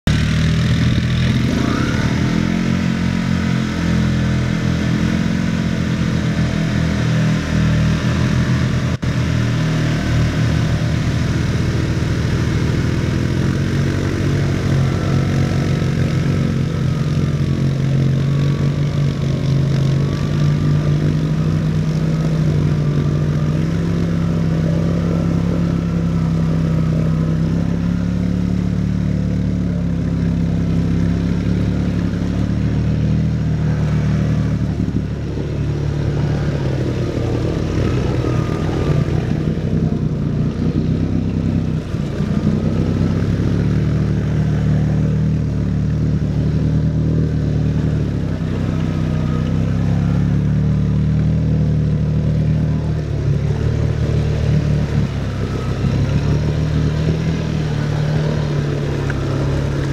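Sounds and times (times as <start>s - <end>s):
atv engines revving: 0.0s - 59.9s.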